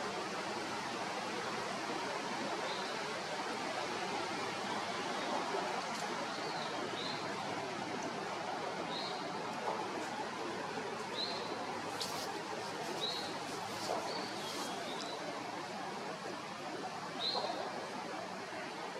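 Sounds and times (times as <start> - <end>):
running water rushing: 0.0 - 18.9.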